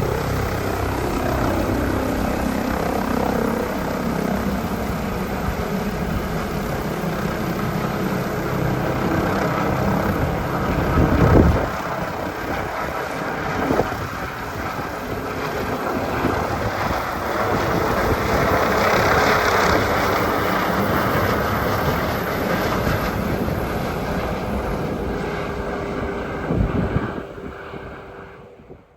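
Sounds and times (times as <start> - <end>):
helicopter rotor and turbine noise: 0.0 - 28.9.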